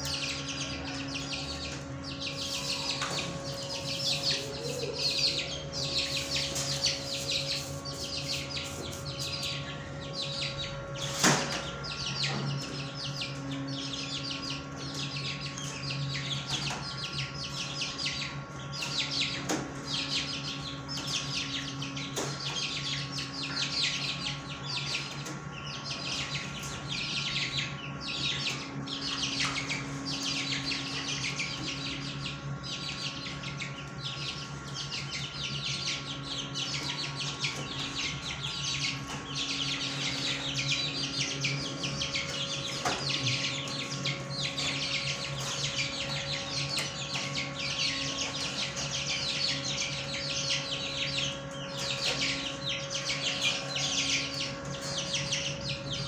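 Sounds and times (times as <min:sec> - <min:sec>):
birds chirping: 0:00.0 - 0:56.0
steady low hum: 0:00.0 - 0:56.0.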